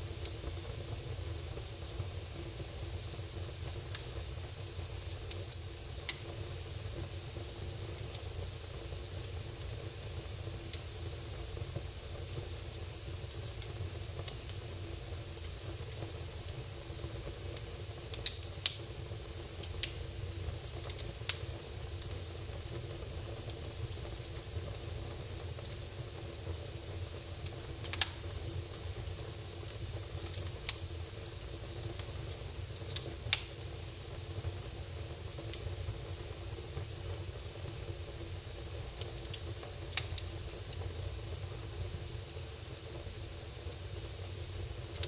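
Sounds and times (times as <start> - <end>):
fire crackles and pops: 0.0 - 45.0
wood fire hissing: 0.0 - 45.0.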